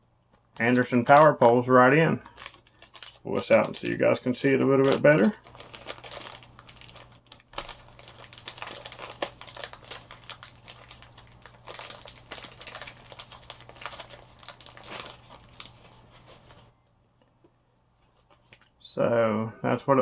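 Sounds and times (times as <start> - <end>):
packaging crinkling: 0.4 - 16.7, 18.0 - 18.8.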